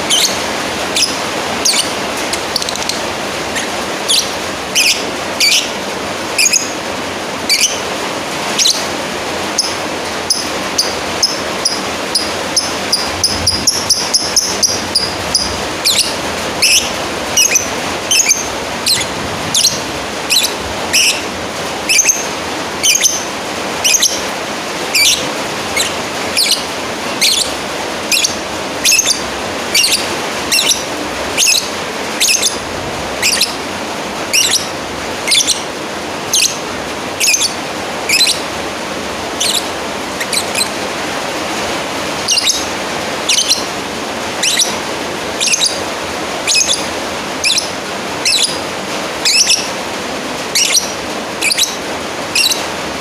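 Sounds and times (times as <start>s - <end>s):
bird chirping calls: 0.0s - 7.9s, 8.5s - 38.6s, 39.3s - 41.3s, 41.9s - 49.9s, 50.5s - 52.7s.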